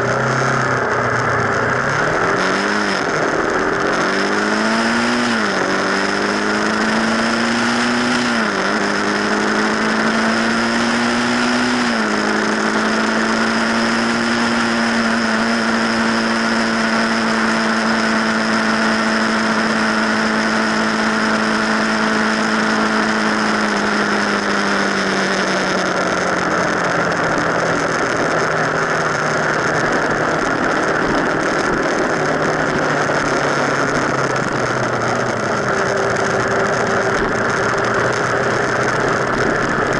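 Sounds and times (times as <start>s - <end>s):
motorcycle engine: 0.0s - 39.9s
road noise: 0.0s - 39.9s
wind noise: 0.0s - 39.9s.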